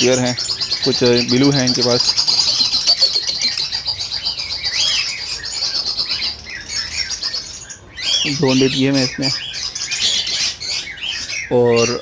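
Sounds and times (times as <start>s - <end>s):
lovebirds chattering: 0.0s - 12.0s.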